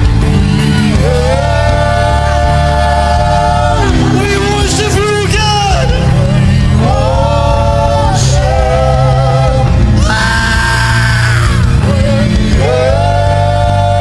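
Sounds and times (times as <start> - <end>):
low instrumental accompaniment: 0.0 - 14.0.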